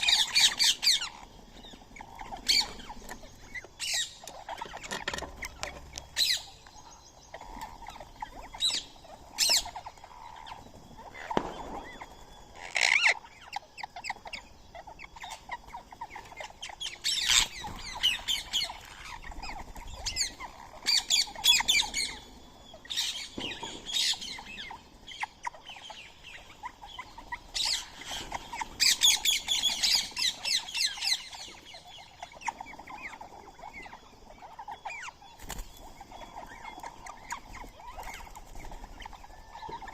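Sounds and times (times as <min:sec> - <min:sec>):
birds squawking: 0:00.0 - 0:39.9.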